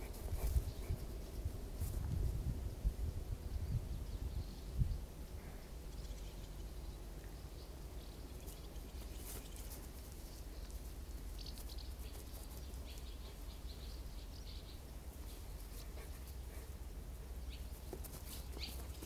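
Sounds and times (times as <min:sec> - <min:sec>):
birds chirping faintly: 0:02.6 - 0:19.0.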